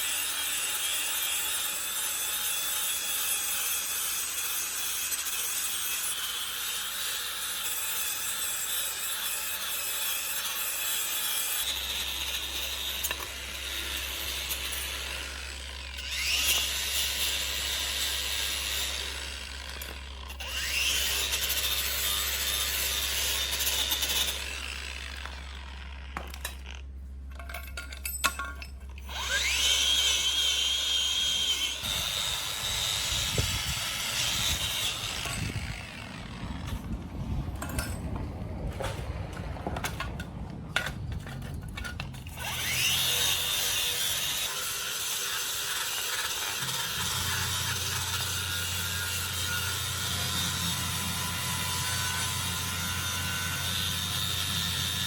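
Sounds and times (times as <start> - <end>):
electric power tool whining: 0.0 - 26.9, 29.0 - 55.0.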